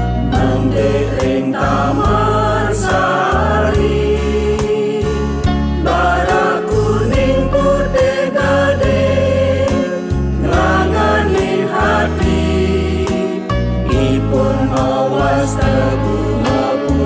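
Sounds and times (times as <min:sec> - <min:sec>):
backing music with bass notes: 0:00.0 - 0:17.0
choir singing a folk song: 0:00.0 - 0:17.0.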